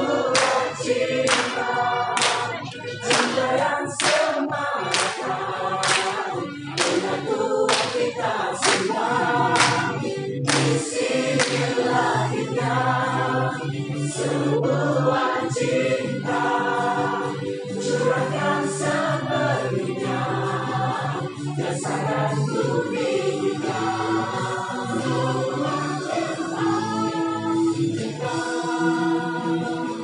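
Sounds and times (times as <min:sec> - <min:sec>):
choir singing with accompaniment: 0:00.0 - 0:30.0.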